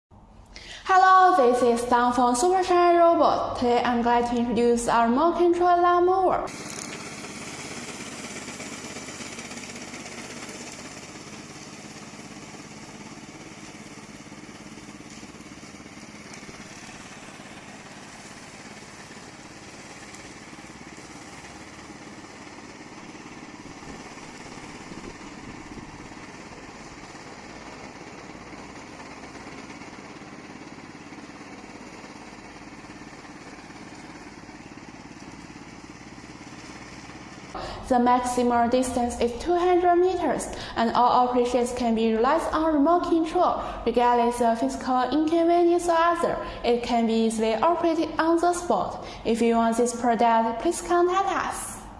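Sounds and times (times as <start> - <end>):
lawn mower engine running: 6.1 - 50.0.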